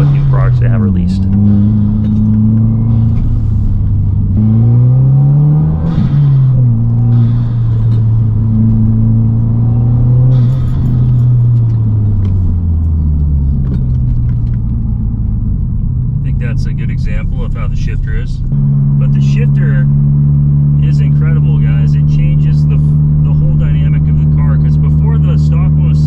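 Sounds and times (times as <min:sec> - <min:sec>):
car engine from inside cabin: 0:00.0 - 0:26.0.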